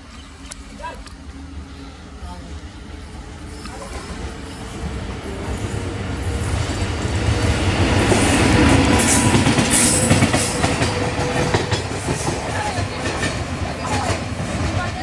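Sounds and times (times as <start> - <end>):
train wheels clattering: 2.2 - 15.0.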